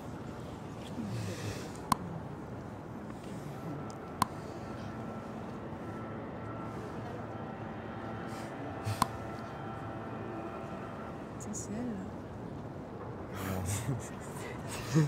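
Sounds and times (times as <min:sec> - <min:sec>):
faint murmur: 0:00.0 - 0:15.0.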